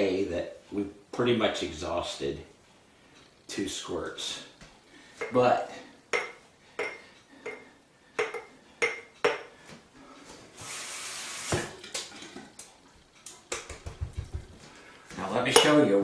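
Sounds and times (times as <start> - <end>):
soft hiss: 0.0 - 8.8, 9.4 - 13.8.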